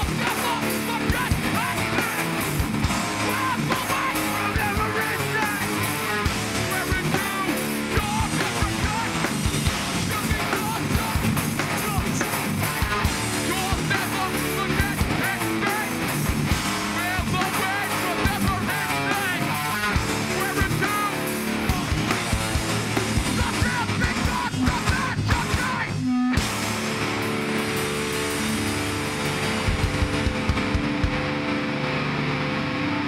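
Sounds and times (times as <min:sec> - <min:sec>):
hard-hit drums: 0:00.0 - 0:32.0
distorted electric guitars: 0:00.0 - 0:33.0.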